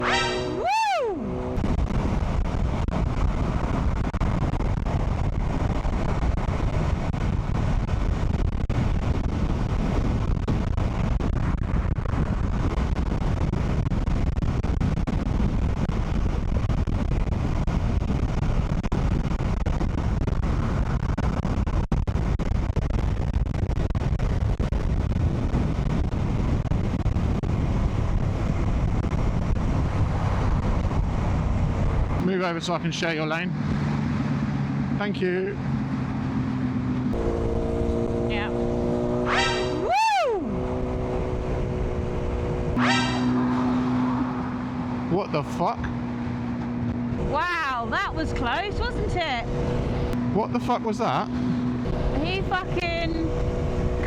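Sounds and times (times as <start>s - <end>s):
wind rushing over microphone: 0.0s - 35.0s, 35.6s - 54.0s
motorcycle road and engine noise: 0.0s - 54.0s.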